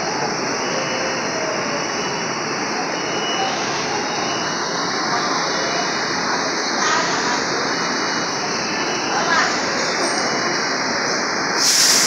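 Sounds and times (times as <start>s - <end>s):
ferry engine and machinery drone: 0.0s - 12.0s.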